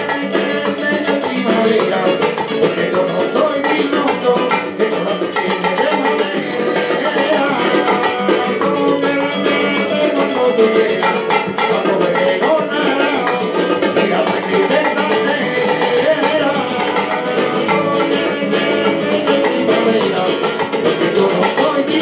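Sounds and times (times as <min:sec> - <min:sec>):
bongos: 0:00.0 - 0:22.0
strummed flamenco guitars: 0:00.0 - 0:22.0.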